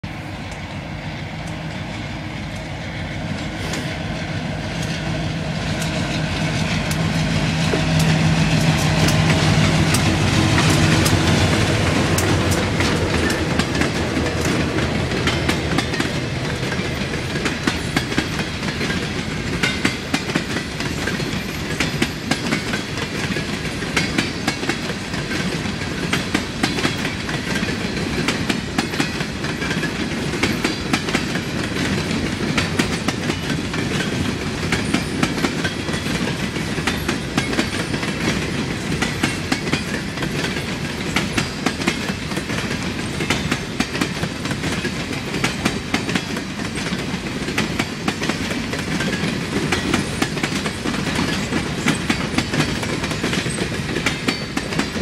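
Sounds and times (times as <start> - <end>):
diesel locomotive engine drone: 0.0 - 55.0
train wheels clickety-clack: 0.1 - 55.0.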